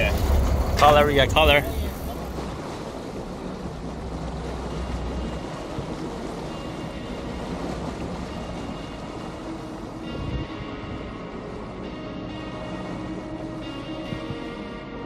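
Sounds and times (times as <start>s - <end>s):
wind noise on microphone: 0.0s - 11.7s, 14.0s - 14.6s
water rushing past boat: 0.0s - 15.0s.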